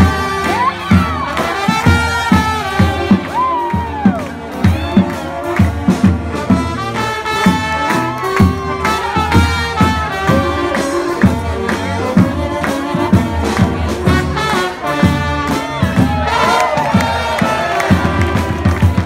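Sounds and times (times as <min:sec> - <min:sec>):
brass band playing swing jazz: 0:00.0 - 0:19.0
steady drum beat: 0:00.0 - 0:19.0.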